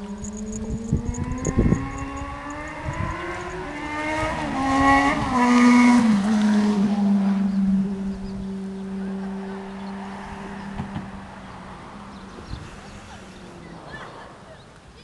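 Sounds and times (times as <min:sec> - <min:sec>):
vehicle engine accelerating: 0:00.0 - 0:14.8.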